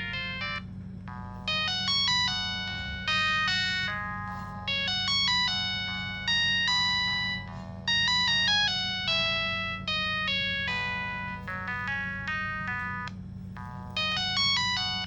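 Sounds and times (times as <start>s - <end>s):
mobile phone ringtone melody: 0.0s - 15.0s.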